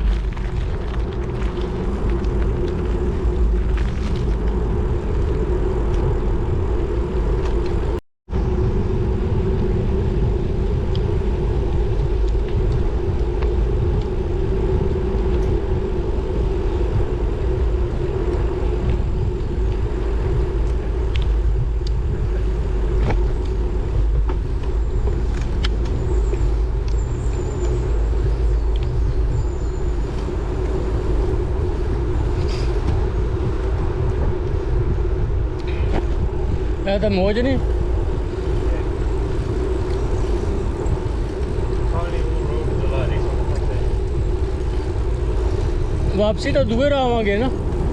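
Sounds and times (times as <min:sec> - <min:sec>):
road rumble of bike: 0:00.0 - 0:47.9
wind on microphone: 0:00.0 - 0:47.9.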